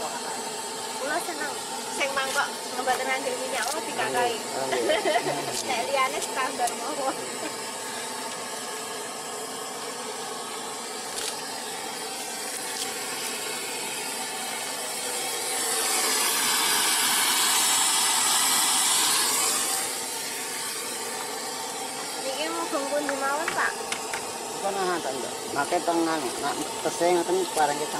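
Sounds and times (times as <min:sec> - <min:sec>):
steaming pot hissing: 0:00.0 - 0:27.9.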